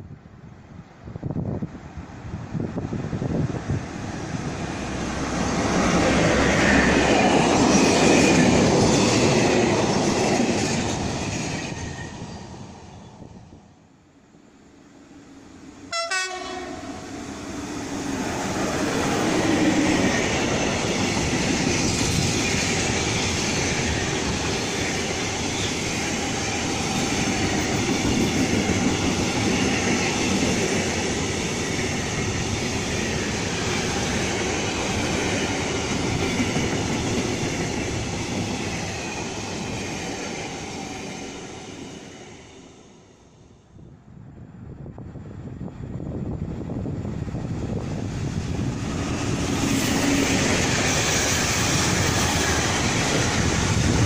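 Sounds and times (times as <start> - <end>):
freight train rumbling: 0.0 - 13.9, 14.5 - 54.0
train rolling past: 0.8 - 54.0.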